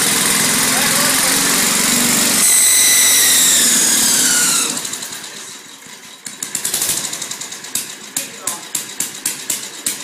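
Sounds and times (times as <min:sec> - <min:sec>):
lawn mower engine whining: 0:00.0 - 0:10.0.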